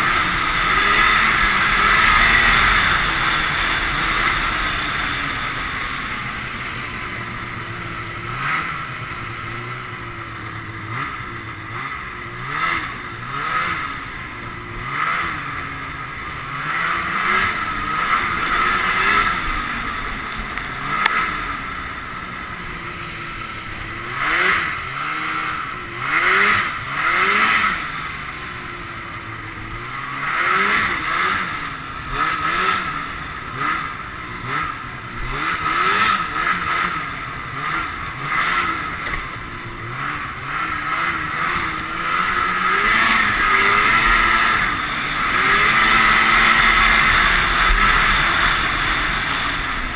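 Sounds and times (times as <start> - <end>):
snowmobile engine revving: 0.0 - 49.9.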